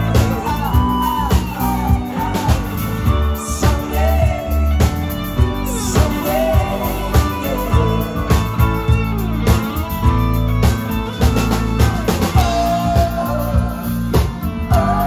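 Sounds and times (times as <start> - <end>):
man singing lead vocal: 0.0 - 10.2, 11.4 - 15.0
bass guitar: 0.0 - 15.0
drums: 0.0 - 15.0
electric guitar: 0.0 - 15.0.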